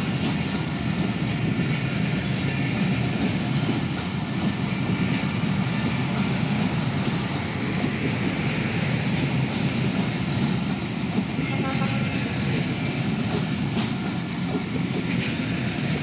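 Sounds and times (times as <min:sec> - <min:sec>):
train wheels rumbling on track: 0:00.0 - 0:16.0
wheels clicking over rail joints: 0:00.0 - 0:16.0.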